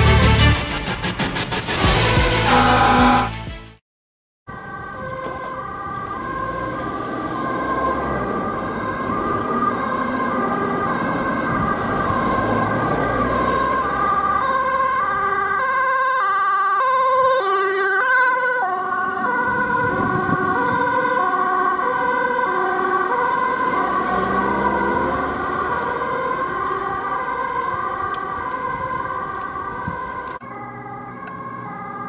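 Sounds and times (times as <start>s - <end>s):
ambulance two-tone siren: 2.4s - 3.4s, 4.5s - 32.0s
traffic noise: 4.5s - 32.0s.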